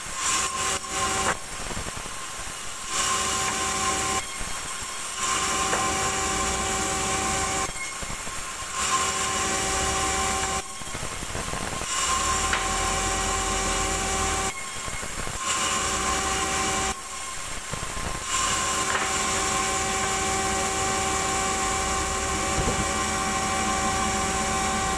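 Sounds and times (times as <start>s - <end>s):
band saw humming: 2.8s - 24.9s
saw blade cutting wood: 2.8s - 24.9s.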